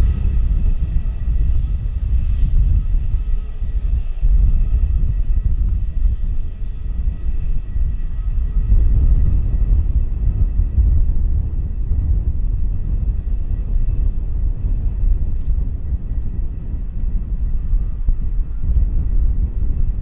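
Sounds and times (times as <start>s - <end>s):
faint high whine: 0.0s - 20.0s
jet engines rumbling: 0.0s - 20.0s.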